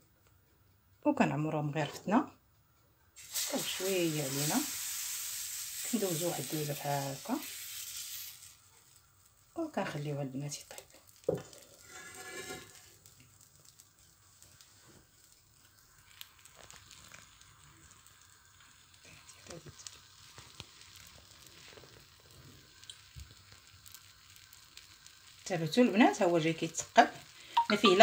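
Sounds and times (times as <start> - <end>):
batter sizzling in pan: 3.2 - 28.0.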